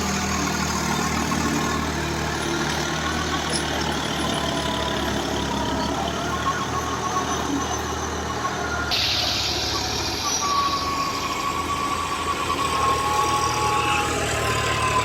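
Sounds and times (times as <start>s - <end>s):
tractor diesel engine humming: 0.0s - 15.0s.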